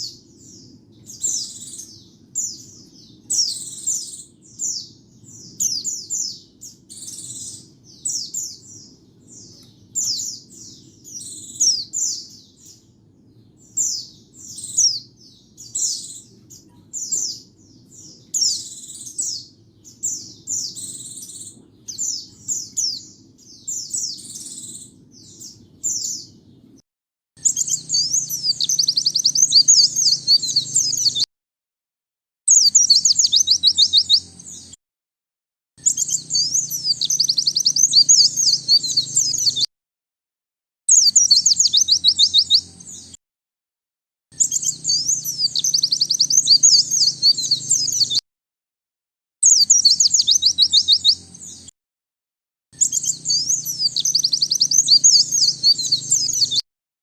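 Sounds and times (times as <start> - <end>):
bird chirping song: 0.0 - 26.8, 27.4 - 31.3, 32.5 - 34.8, 35.8 - 39.7, 40.9 - 43.2, 44.3 - 48.2, 49.4 - 51.7, 52.8 - 56.6.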